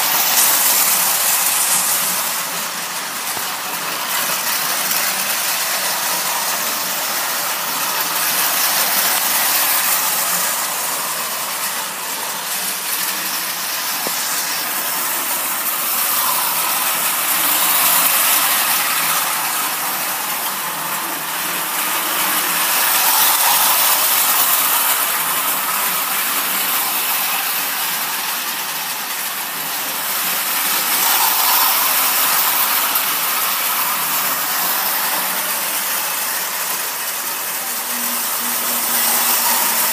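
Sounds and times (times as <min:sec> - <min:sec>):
toy trains running on metal track: 0:00.0 - 0:39.9.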